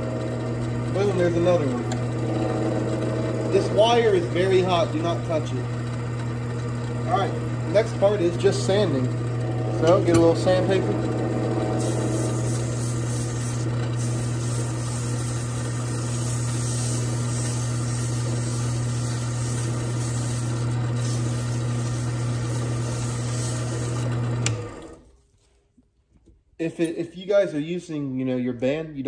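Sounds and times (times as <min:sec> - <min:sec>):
wood lathe motor humming: 0:00.0 - 0:25.0.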